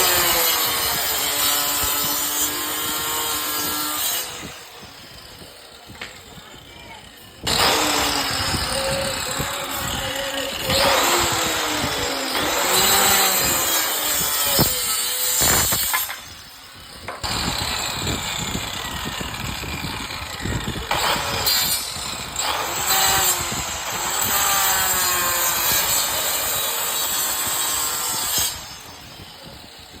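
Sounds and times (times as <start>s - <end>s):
power tool cutting wood: 0.0s - 30.0s.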